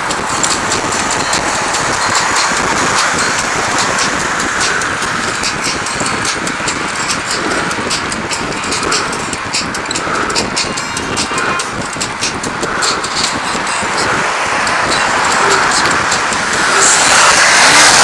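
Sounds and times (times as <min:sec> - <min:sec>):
bicycle road noise: 0:00.0 - 0:18.0
fast irregular rattling: 0:00.0 - 0:18.0
traffic: 0:00.0 - 0:18.0.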